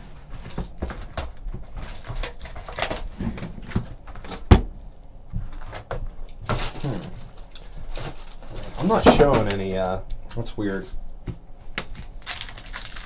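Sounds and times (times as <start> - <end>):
foil packs rustling and crinkling: 0.0 - 4.6, 5.3 - 10.0, 11.6 - 13.0.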